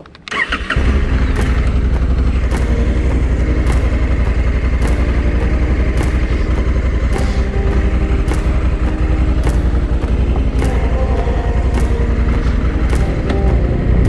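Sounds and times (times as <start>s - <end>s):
motorcycle starter cranking: 0.0s - 13.8s
light ticking: 0.0s - 14.0s
motorcycle engine idling: 0.3s - 14.0s.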